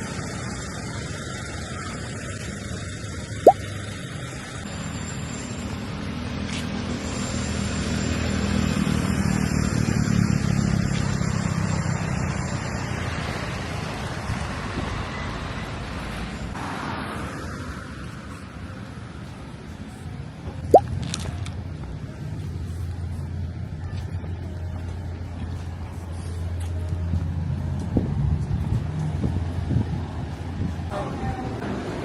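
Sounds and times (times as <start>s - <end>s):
traffic rumble: 5.8s - 32.0s.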